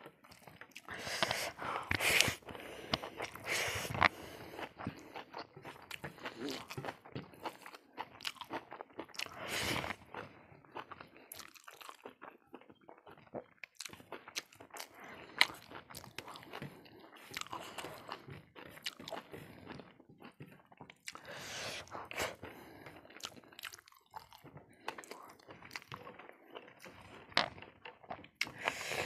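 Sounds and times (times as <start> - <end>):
close chewing and crunching: 0.0 - 29.0.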